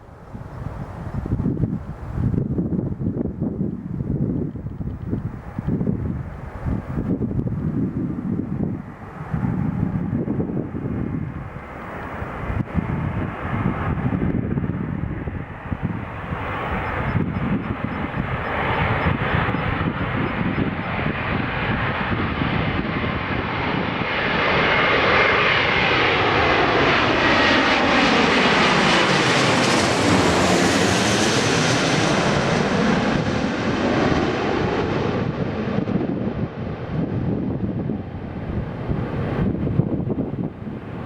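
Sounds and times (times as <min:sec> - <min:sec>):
jet plane passing low: 0:00.0 - 0:41.0.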